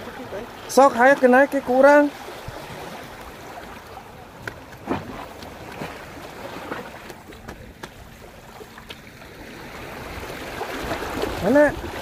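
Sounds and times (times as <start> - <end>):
sea water washing against concrete: 0.0 - 12.0.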